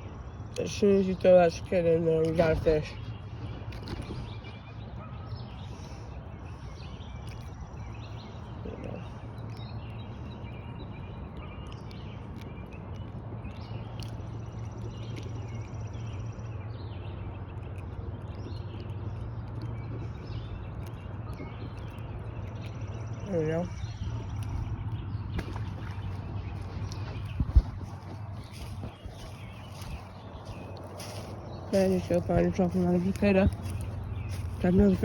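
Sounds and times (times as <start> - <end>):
birds chirping: 0.0 - 35.0
steady low rumble: 0.0 - 35.0.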